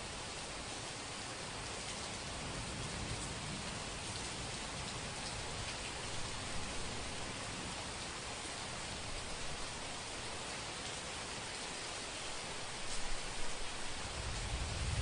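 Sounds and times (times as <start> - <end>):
rain pattering on surfaces: 0.0 - 15.0.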